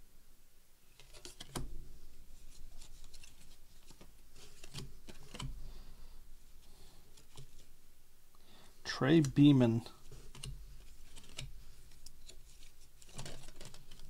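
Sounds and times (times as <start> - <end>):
cards sliding and rubbing: 0.9 - 7.7, 9.2 - 14.0.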